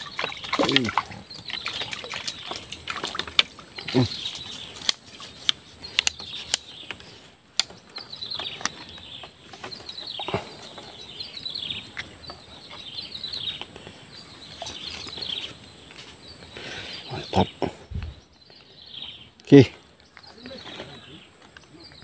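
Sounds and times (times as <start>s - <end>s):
bird singing falling phrases: 0.0s - 22.0s.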